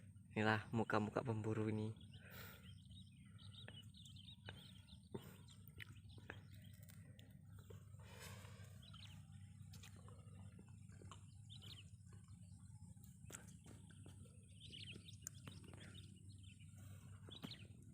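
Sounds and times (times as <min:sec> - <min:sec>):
faint birds chirping: 0:00.0 - 0:17.9
low steady hum: 0:00.0 - 0:17.9.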